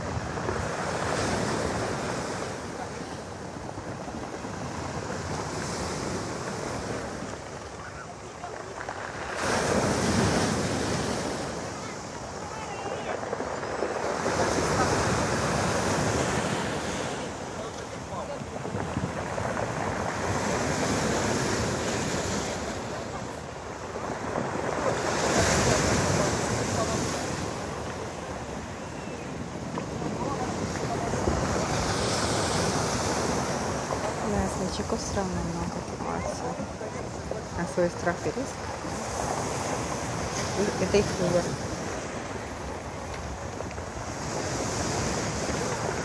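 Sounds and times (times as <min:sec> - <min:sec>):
surf breaking on pebble beach: 0:00.0 - 0:46.0
wind buffeting microphone: 0:00.0 - 0:46.0.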